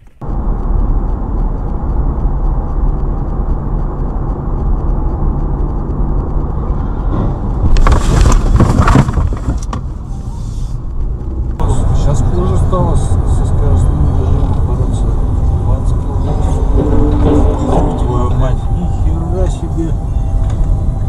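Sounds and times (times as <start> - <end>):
engine and road rumble: 0.0 - 21.0
rushing noise: 0.0 - 21.0.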